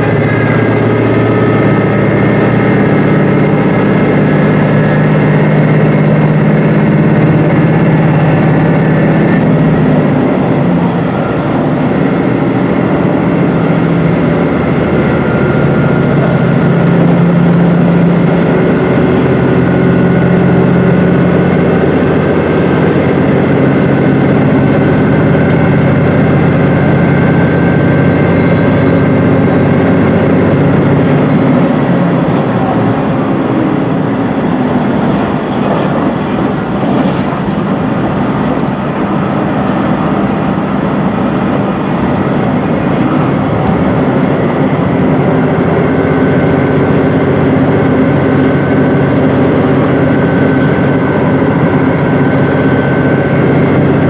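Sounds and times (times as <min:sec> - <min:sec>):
diesel engine drone: 0:00.0 - 0:54.0
wheels rumbling on rails: 0:00.0 - 0:54.0.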